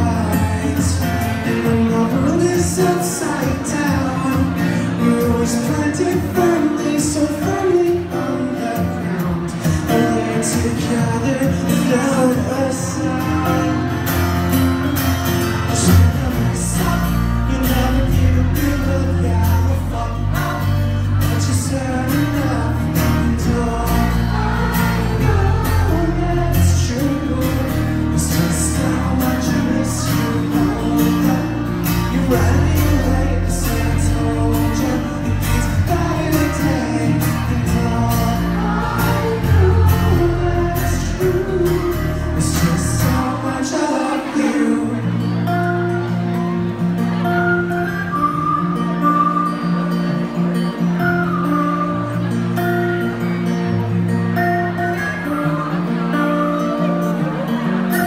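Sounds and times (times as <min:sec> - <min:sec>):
man singing: 0:00.0 - 0:53.2
acoustic guitar: 0:00.0 - 0:58.0.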